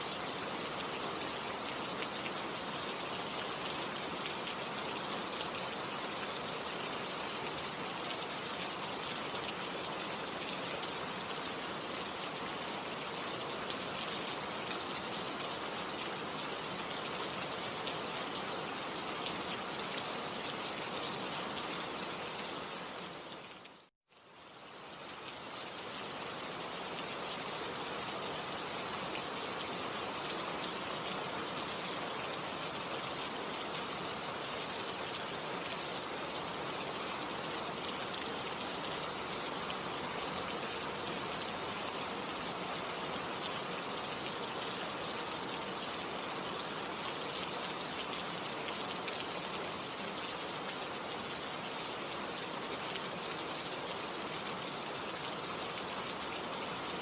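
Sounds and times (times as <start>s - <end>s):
dense rain falling: 0.0s - 57.0s.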